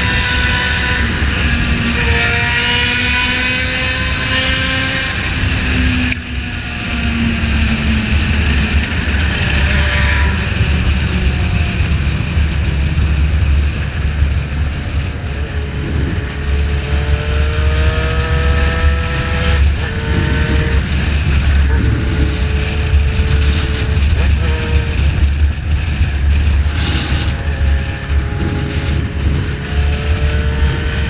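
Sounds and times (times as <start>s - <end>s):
motorcycle engine revving: 0.0s - 31.0s
wind noise on microphone: 0.0s - 31.0s.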